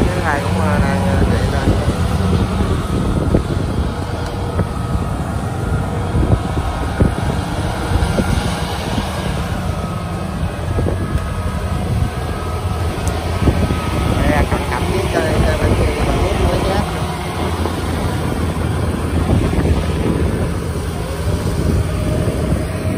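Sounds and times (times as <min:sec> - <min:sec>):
diesel engines rumbling: 0:00.0 - 0:22.9.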